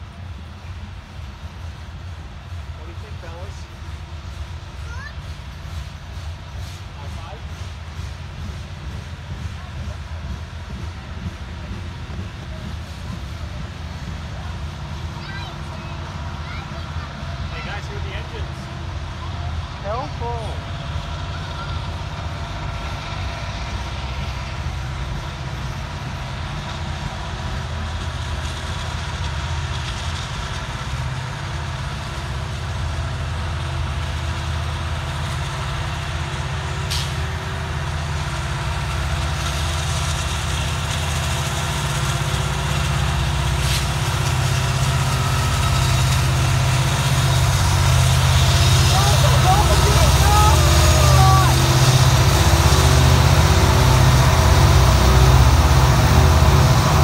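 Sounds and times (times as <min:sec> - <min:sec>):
diesel locomotive engines running: 0:00.0 - 0:57.0
train cars rolling on rails: 0:00.0 - 0:57.0.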